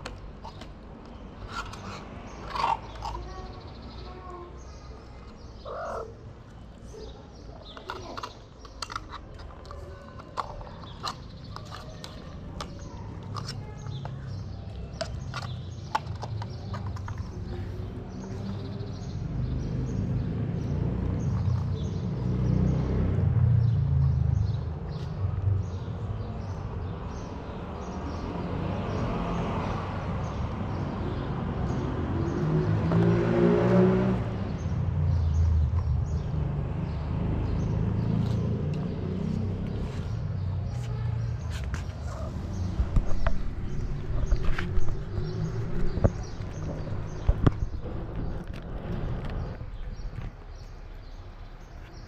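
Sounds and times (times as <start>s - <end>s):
motor vehicle passing: 0.4s - 52.0s.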